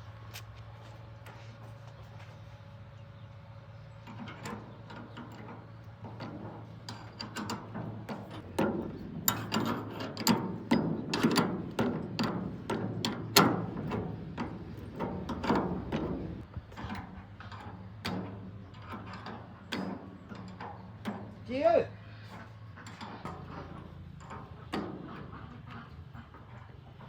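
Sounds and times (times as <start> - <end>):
hand tools clicking and clanking: 4.0 - 27.0.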